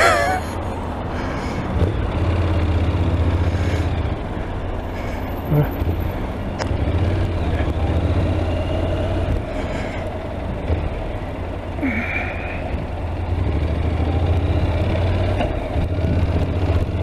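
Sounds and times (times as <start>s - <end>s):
motorcycle engine droning: 0.0s - 17.0s
road and wind noise: 0.0s - 17.0s.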